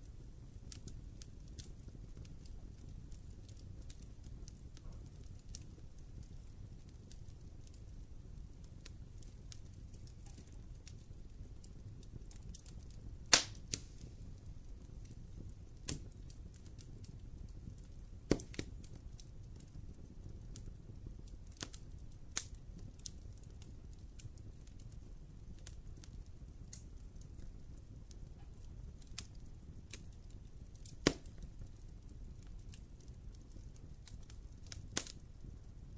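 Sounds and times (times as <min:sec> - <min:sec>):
wood fire crackling: 0:00.0 - 0:35.9
sharp pops of fire: 0:00.6 - 0:35.6.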